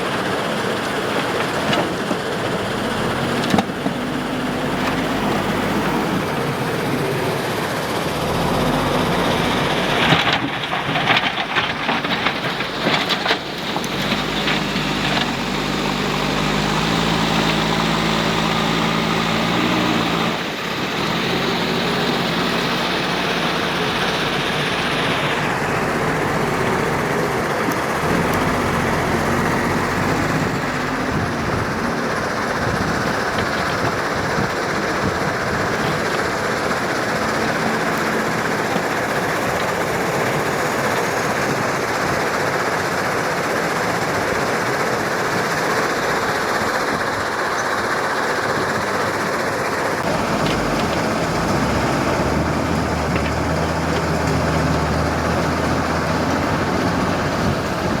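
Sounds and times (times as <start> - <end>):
heavy diesel machinery rumble: 0.0 - 58.0.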